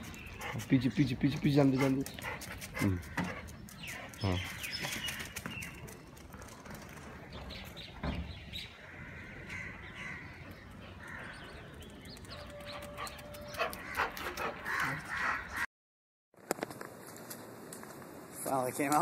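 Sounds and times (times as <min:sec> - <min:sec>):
birds chirping and calling: 0:00.0 - 0:15.7.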